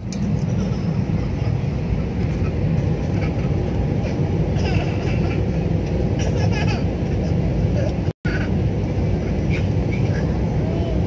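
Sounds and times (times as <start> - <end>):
jet engines and airflow in cabin: 0.0 - 11.0.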